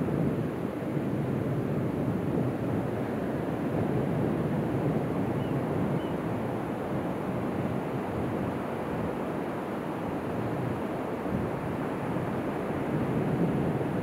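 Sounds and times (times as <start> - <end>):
ocean waves breaking on beach: 0.0 - 14.0
wind noise on microphone: 0.0 - 14.0.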